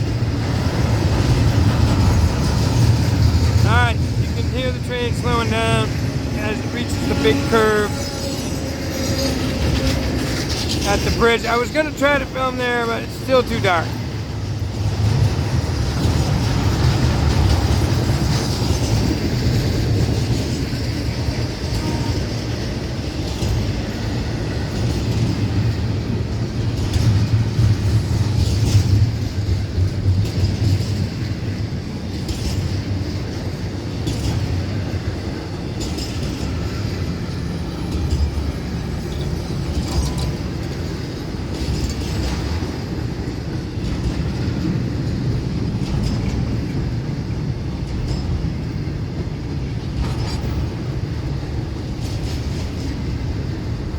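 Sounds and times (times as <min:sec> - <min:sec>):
freight train rumbling past: 0:00.0 - 0:53.9
wheels clicking over rails: 0:00.0 - 0:53.9.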